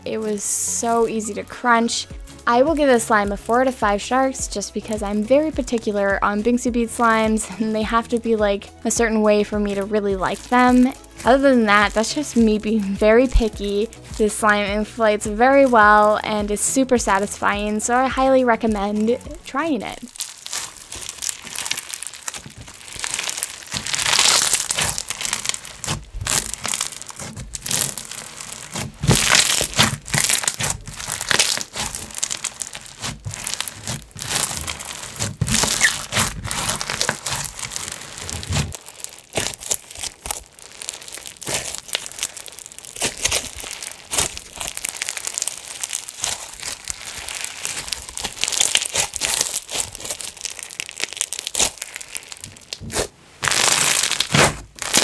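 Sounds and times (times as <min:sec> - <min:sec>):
bead slime crackling and crunching: 0:00.0 - 0:55.0.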